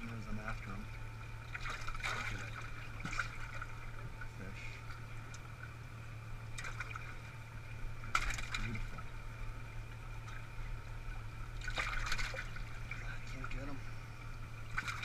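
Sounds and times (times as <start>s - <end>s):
steady hum: 0.0s - 15.0s
water sloshing and splashing: 0.0s - 15.0s.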